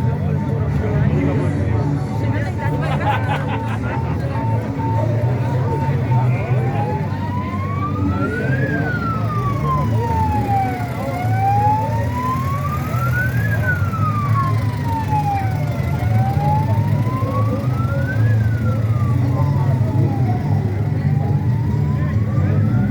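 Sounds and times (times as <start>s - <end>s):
wailing siren: 0.0s - 22.9s.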